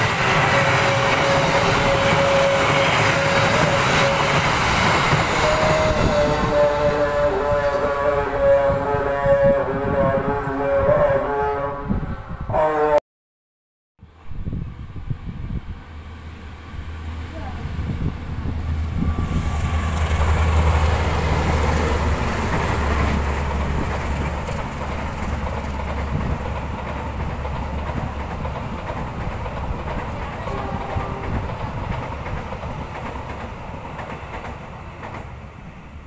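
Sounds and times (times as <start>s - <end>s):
train wheels on rails: 0.0s - 8.6s, 15.2s - 36.0s.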